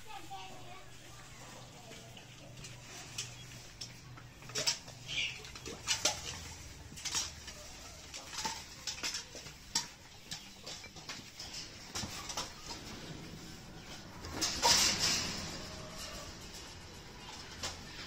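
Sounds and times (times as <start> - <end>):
animals scuffling on tiled floor: 0.1 - 18.0.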